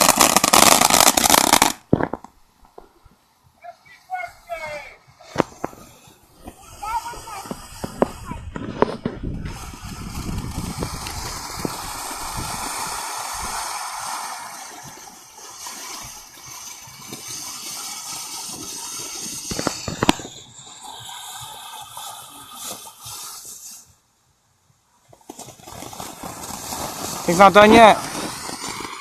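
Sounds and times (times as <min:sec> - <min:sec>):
small firework pops: 0:00.0 - 0:02.9, 0:05.1 - 0:24.0, 0:25.0 - 0:29.0
firework hissing: 0:00.0 - 0:24.2, 0:25.1 - 0:29.0.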